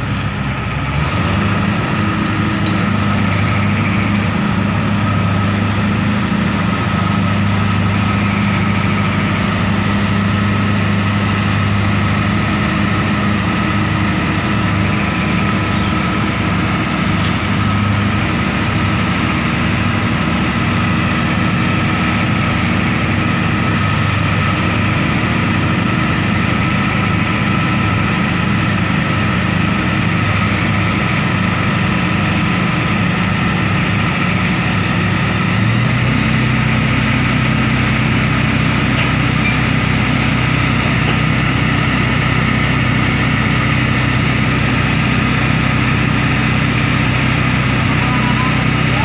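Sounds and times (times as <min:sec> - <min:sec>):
crane diesel engine running: 0:00.0 - 0:49.0.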